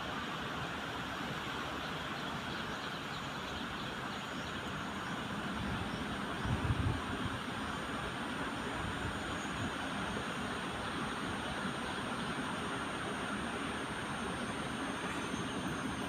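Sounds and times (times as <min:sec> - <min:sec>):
train rumble with hiss: 0:00.0 - 0:16.0.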